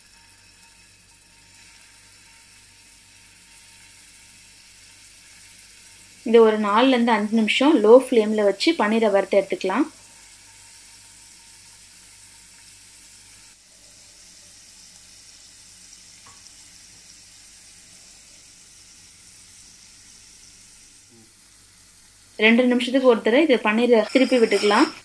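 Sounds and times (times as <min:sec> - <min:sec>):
oil sizzling in a pan: 0:00.0 - 0:25.0.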